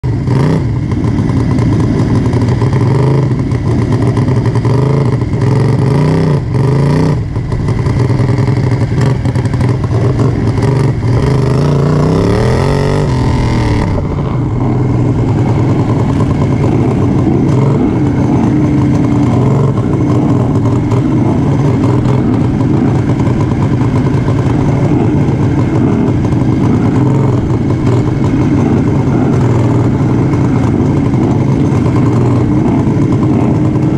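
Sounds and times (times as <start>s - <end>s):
other racing mowers: 0.0s - 33.9s
racing lawn mower engine: 0.0s - 33.9s.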